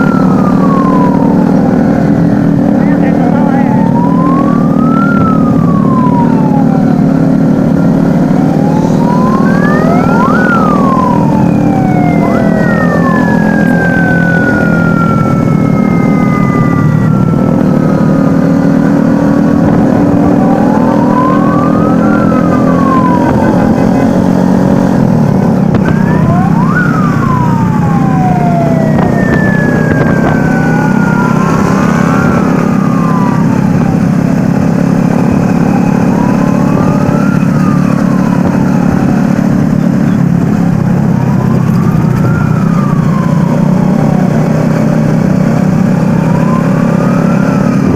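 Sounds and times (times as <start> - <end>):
drone of many vehicle engines: 0.0 - 47.9
sirens wailing: 0.0 - 47.9.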